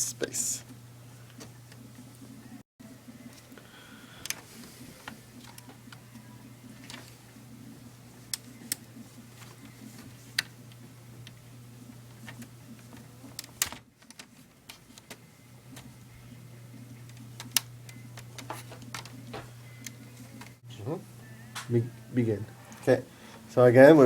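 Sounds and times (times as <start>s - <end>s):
steady low hum: 0.0s - 13.6s, 14.5s - 24.0s.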